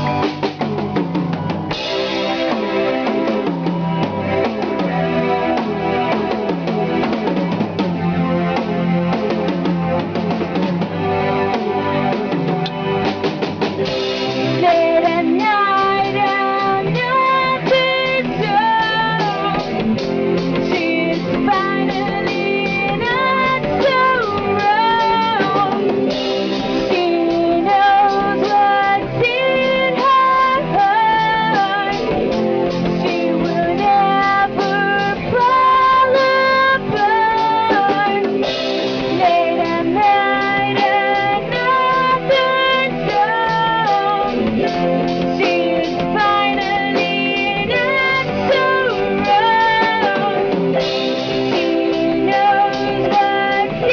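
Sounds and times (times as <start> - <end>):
band music with guitar and drums: 0.0 - 53.9
sustained bending lead melody: 0.0 - 53.9.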